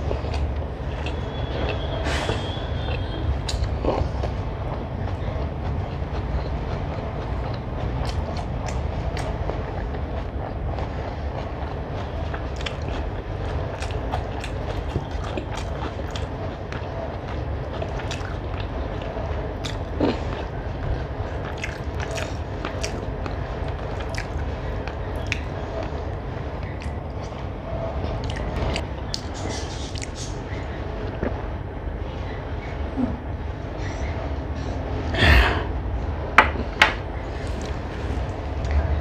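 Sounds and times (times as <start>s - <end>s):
person chewing food: 0.0s - 31.4s
low background rumble: 0.0s - 39.0s.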